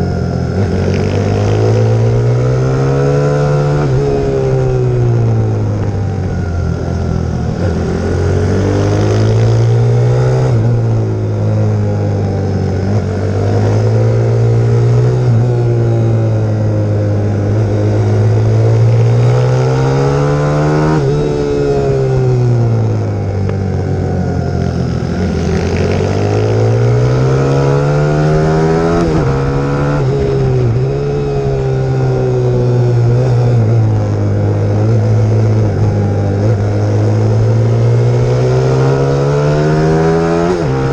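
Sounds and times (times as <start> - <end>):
motorbike engine revving: 0.0 - 40.9.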